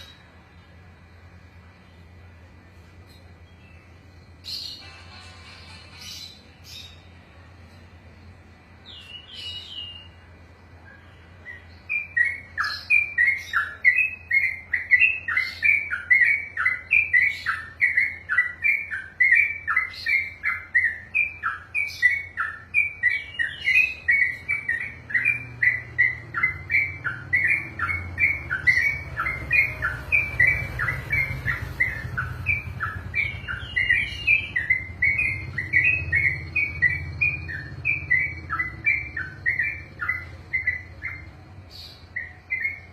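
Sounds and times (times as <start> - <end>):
low background hum: 0.0 - 42.9
bird chirping rapidly: 8.2 - 42.9.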